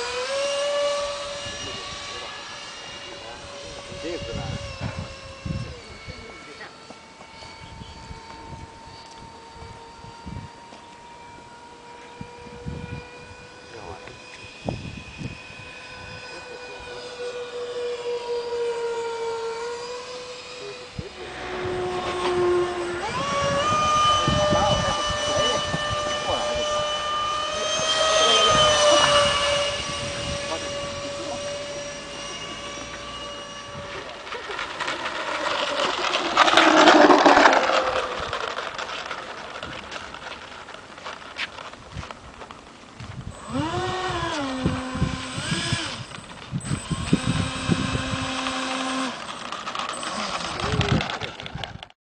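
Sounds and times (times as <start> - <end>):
model jet ducted fans whining: 0.0 - 52.0.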